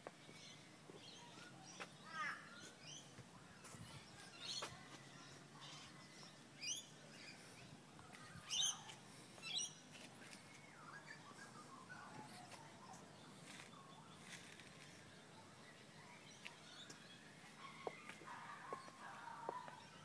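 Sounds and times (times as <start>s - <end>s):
birds chirping: 0.0s - 20.0s
birds warbling: 0.3s - 7.7s, 8.4s - 20.0s.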